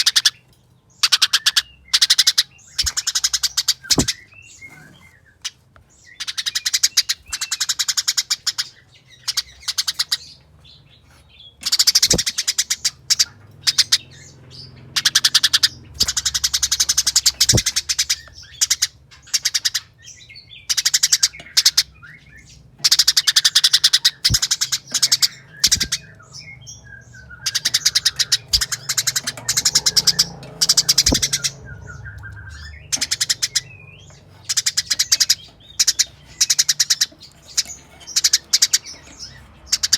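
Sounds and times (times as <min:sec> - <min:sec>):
sparrows chattering: 0:00.0 - 0:39.9.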